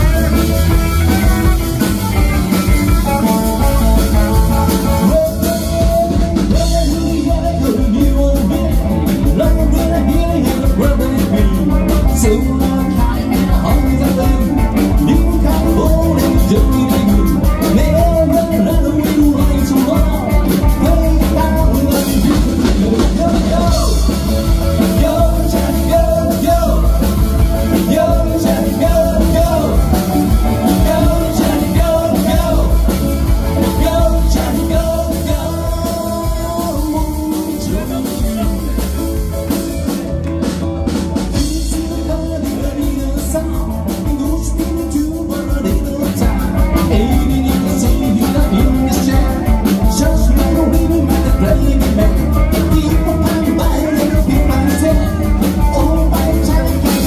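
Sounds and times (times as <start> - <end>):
live rock and roll band: 0.0 - 57.0
person singing: 0.0 - 57.0.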